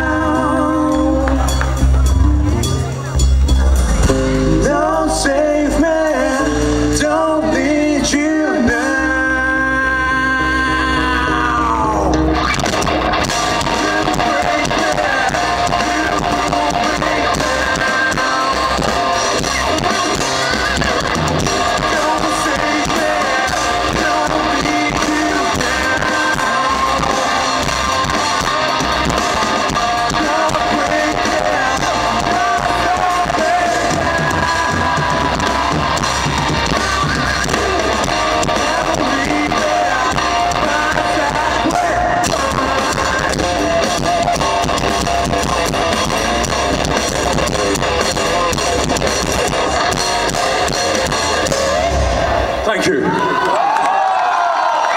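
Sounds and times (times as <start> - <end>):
rock band playing live: 0.0 - 53.4.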